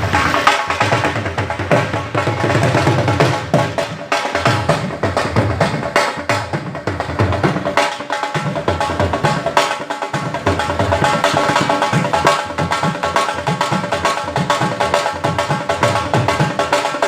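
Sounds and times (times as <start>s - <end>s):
fast dense drumming: 0.0s - 17.0s.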